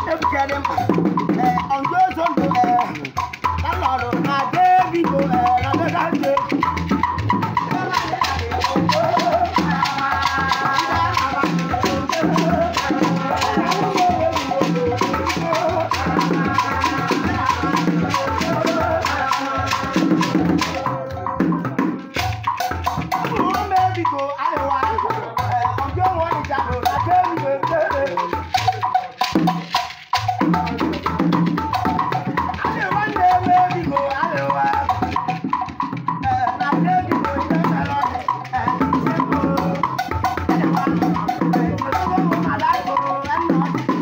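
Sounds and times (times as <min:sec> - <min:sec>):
beaded gourd rattle shaking: 0:00.0 - 0:44.0.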